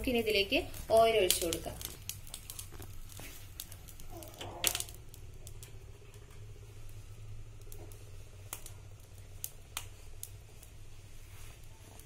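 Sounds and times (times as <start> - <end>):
low hum: 1.7 - 12.0.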